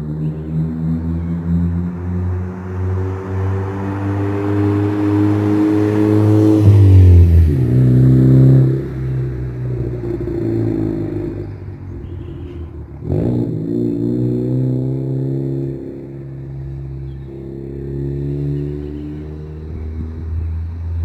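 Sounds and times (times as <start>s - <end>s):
car driving past loudly: 0.0s - 21.0s.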